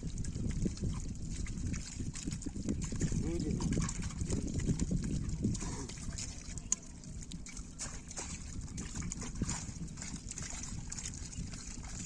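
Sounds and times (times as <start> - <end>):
pond water splashing: 0.0 - 12.0.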